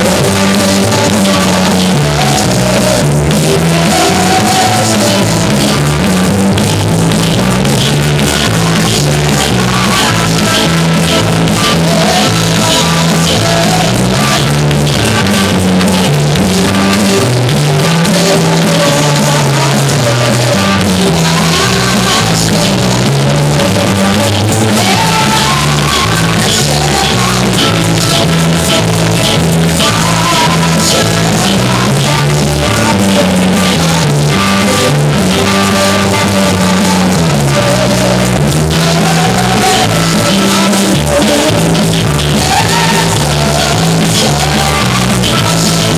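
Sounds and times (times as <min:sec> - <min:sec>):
bass line: 0:00.0 - 0:45.9
drum kit beat: 0:00.0 - 0:45.9
loud band music: 0:00.0 - 0:45.9.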